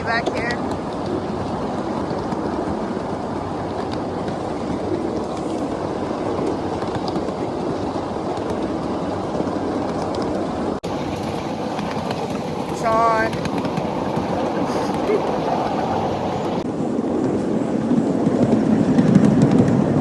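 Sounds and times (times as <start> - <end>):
miniature railway car rumbling: 0.0 - 20.0.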